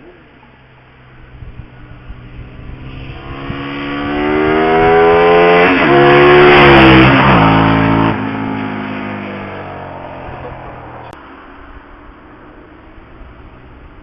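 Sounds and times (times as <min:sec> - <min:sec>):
vehicle passing at speed: 0:01.0 - 0:14.0.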